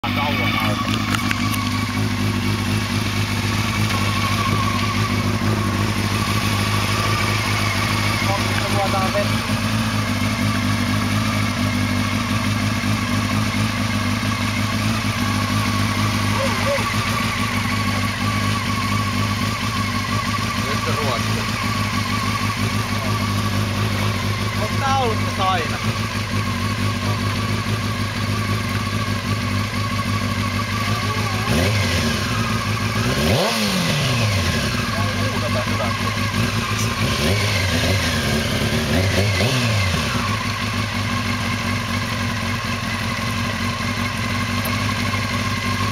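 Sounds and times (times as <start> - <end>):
atv engine idling: 0.0 - 45.9.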